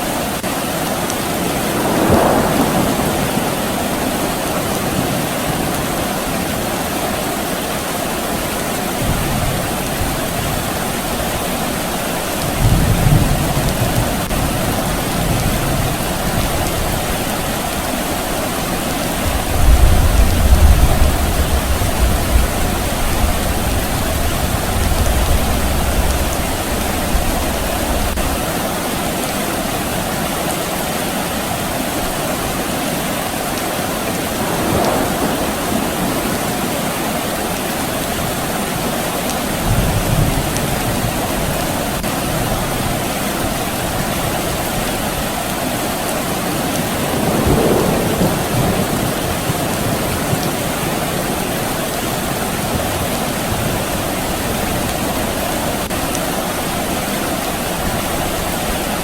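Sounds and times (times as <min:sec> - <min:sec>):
rain hissing: 0:00.0 - 0:59.0
distant thunder rumble: 0:01.2 - 0:07.2, 0:08.9 - 0:28.6, 0:34.0 - 0:45.3, 0:46.3 - 0:59.0.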